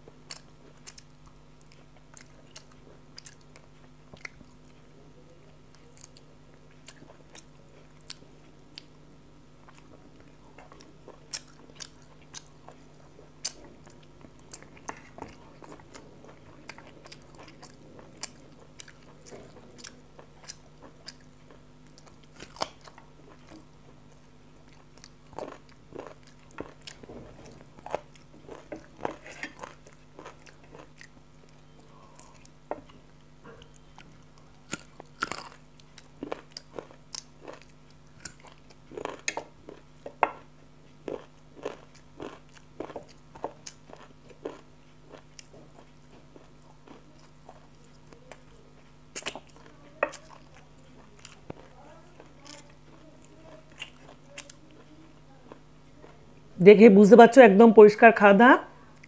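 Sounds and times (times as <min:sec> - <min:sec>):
chewing and crunching: 0:00.0 - 0:05.0, 0:05.6 - 0:56.4
faint steady hum: 0:00.0 - 0:59.0.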